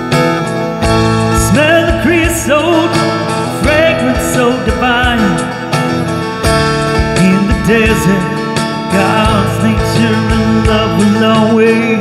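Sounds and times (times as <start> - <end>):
strummed guitar chords: 0.0 - 12.0
man singing country ballad: 1.2 - 12.0.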